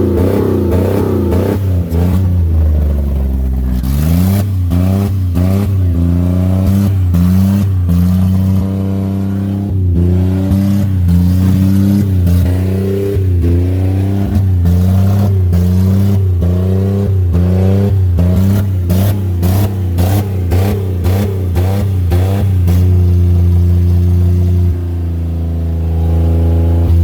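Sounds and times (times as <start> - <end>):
car engine revving hard: 0.0 - 27.0.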